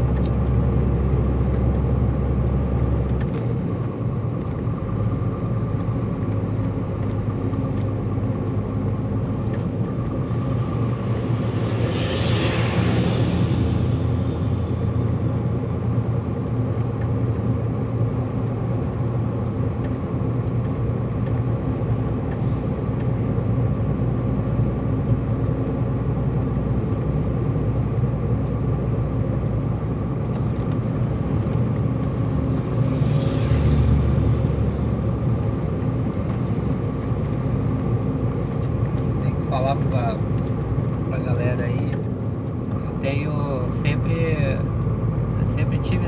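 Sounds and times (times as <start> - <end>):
truck diesel engine running: 0.0 - 45.8.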